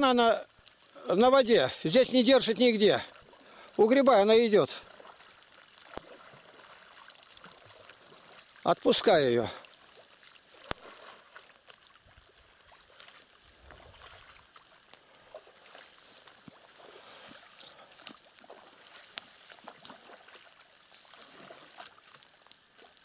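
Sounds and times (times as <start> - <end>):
water splashing and dripping: 0.0 - 23.0.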